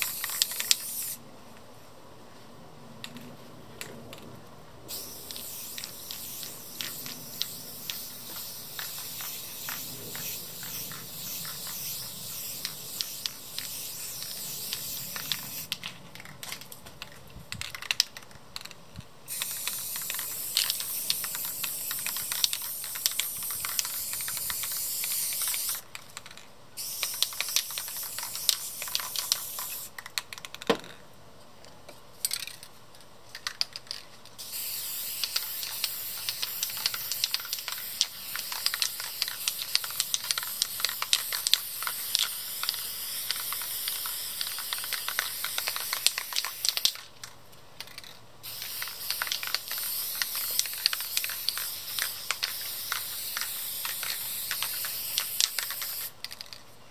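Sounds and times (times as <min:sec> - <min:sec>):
spray paint can hissing: 0:00.0 - 0:01.2, 0:04.9 - 0:30.6, 0:33.3 - 0:47.1, 0:47.8 - 0:56.6.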